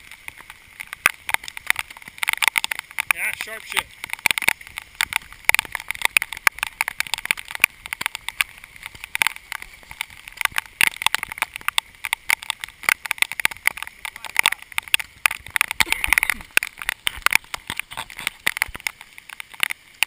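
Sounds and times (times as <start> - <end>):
raindrops tapping on camera: 0.0 - 20.0
steady rain hiss: 0.0 - 20.0.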